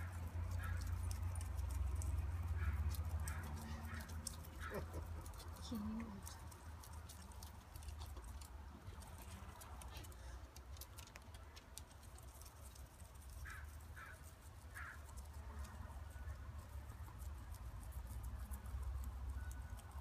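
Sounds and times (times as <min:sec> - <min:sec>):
guinea pig chirps: 0:00.0 - 0:08.6, 0:10.8 - 0:20.0
guinea pig chewing hay: 0:00.0 - 0:20.0
low steady rumble: 0:00.0 - 0:20.0.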